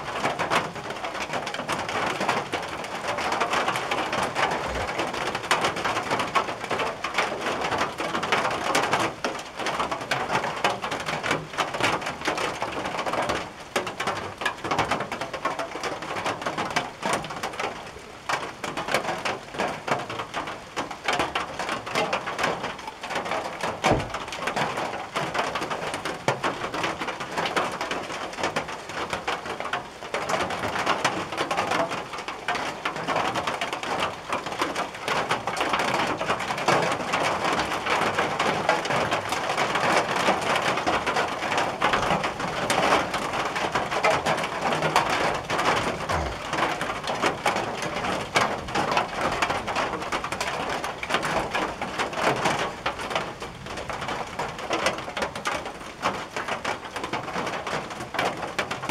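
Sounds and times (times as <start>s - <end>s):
rain on a tin roof: 0.0s - 58.9s.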